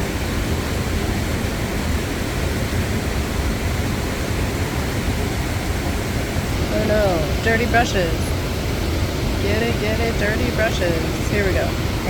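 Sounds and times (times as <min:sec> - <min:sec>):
waterfall roar: 0:00.0 - 0:12.0.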